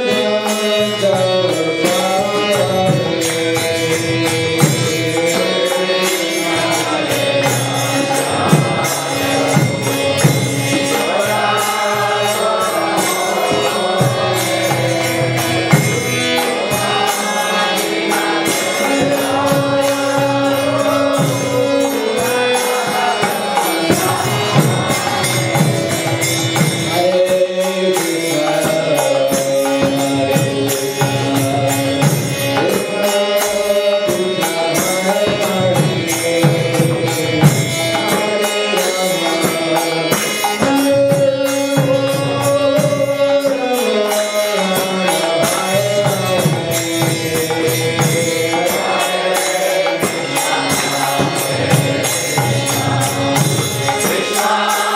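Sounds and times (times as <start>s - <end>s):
harmonium chords: 0.0s - 54.9s
man singing a chant: 0.0s - 54.9s.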